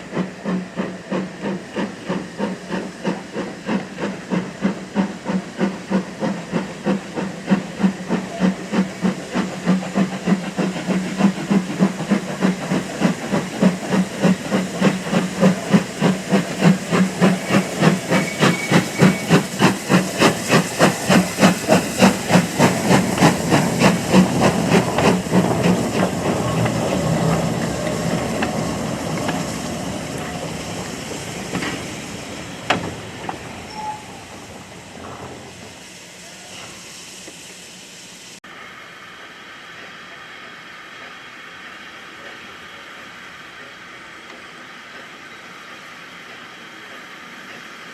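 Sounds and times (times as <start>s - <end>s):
steam hiss and rumble: 0.0s - 47.9s
steam locomotive chuffing: 0.0s - 47.9s.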